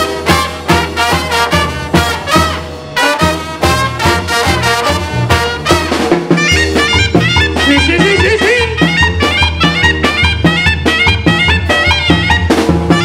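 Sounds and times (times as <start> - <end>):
brass band playing dance tune: 0.0 - 13.0.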